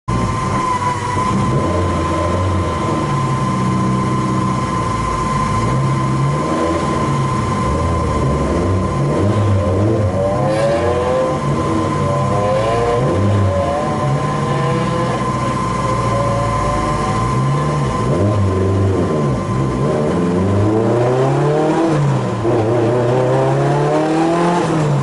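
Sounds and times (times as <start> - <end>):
car engine revving hard: 0.1 - 25.0
high-pitched whine: 0.1 - 25.0.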